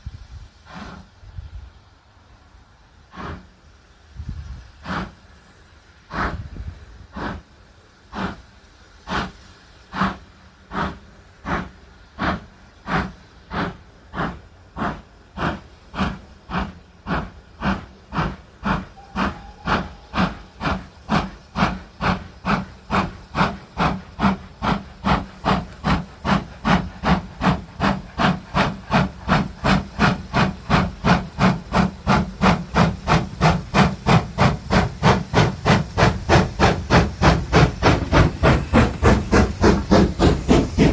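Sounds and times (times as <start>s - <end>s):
steam locomotive exhaust beats: 0.0s - 40.9s.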